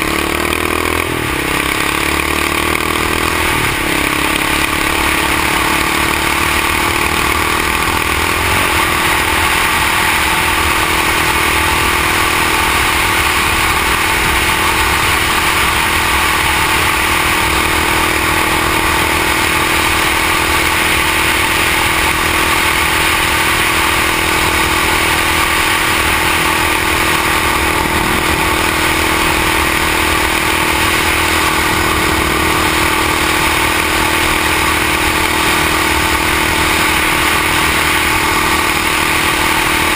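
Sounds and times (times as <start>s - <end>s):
single-cylinder engine accelerating: 0.0s - 39.9s
wind and road noise: 0.0s - 39.9s.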